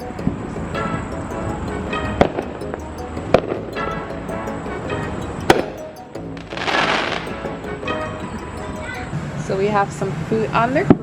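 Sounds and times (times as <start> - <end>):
background music: 0.0 - 9.8.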